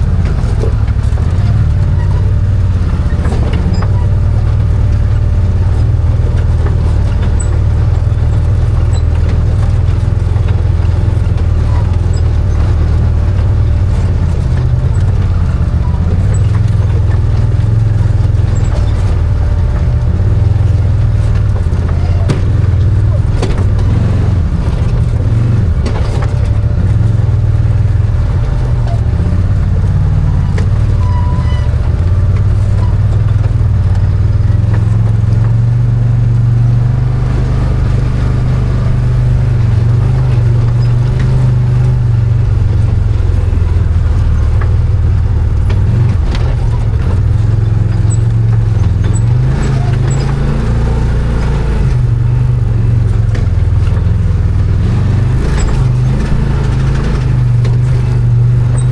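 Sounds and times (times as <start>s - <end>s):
engine droning: 0.0s - 58.9s.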